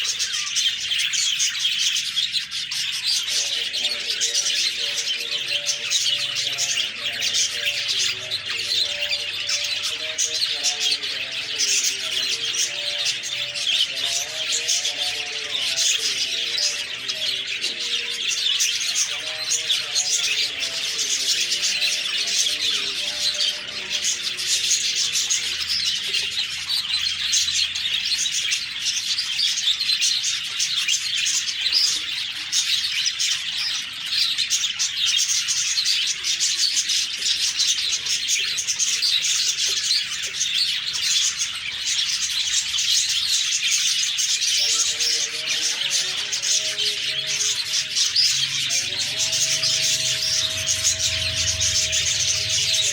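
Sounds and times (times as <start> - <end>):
budgerigars chirping and warbling: 0.0 - 52.9.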